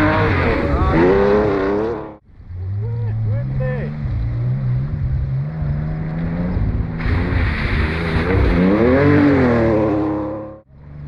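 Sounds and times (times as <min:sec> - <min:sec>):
rally car engine accelerating: 0:00.0 - 0:11.0.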